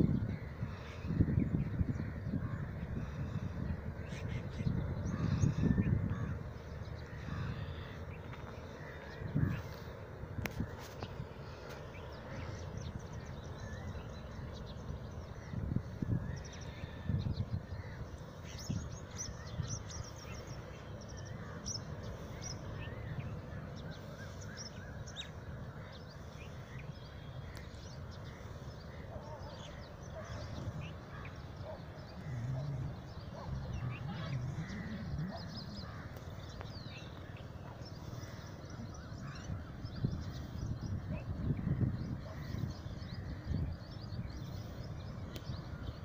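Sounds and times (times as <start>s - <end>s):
birds chirping: 0.0s - 46.0s
steady low rumble: 0.0s - 46.0s.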